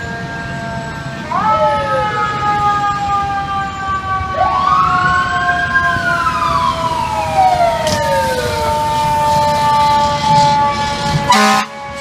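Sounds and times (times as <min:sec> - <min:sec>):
mechanical siren wailing: 0:00.0 - 0:12.0
second siren steady tone: 0:00.0 - 0:12.0.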